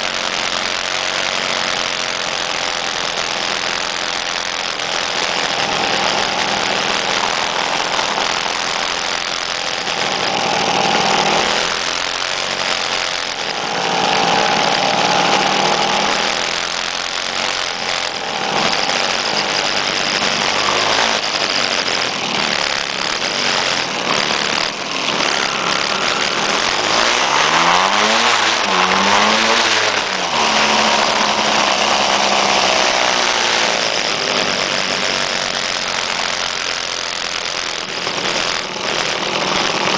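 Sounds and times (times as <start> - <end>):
motor scooter engines revving: 0.0 - 39.9.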